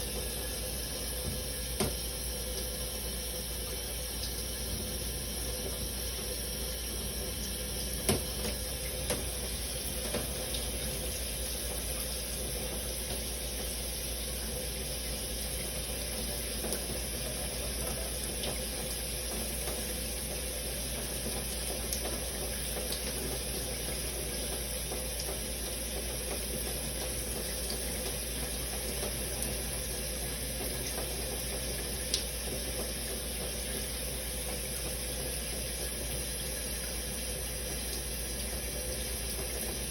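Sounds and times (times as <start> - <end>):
shower water spraying: 0.0 - 39.9
faint drips: 2.4 - 35.6.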